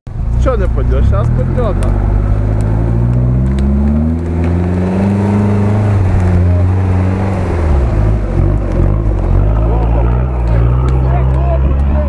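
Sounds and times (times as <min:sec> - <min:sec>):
engine revving hard: 0:00.4 - 0:12.0.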